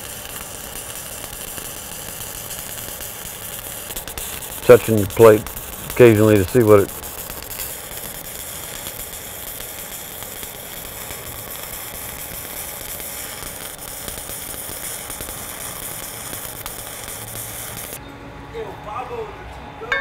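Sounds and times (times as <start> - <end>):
welding arc sizzling: 0.0 - 18.0.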